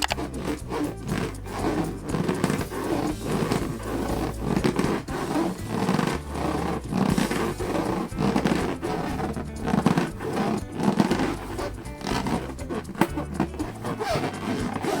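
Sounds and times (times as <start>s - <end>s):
balloons squeaking: 0.0s - 15.0s.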